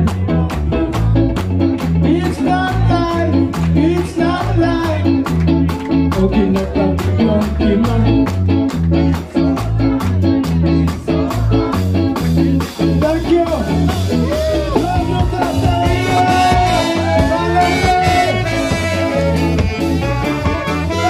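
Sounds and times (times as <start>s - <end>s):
live ska band playing: 0.0s - 21.0s
person singing: 1.9s - 21.0s.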